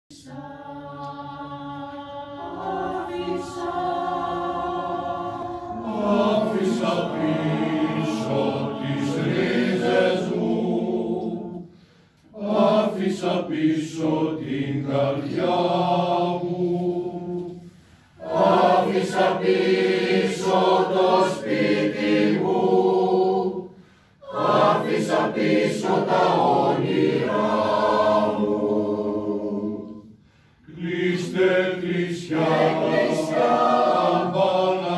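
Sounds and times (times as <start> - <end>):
mixed choir singing a cappella: 0.1 - 34.9.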